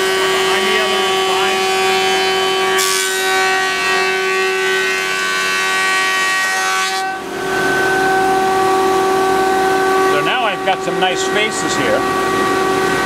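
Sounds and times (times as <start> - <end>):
planer whine: 0.0 - 13.0.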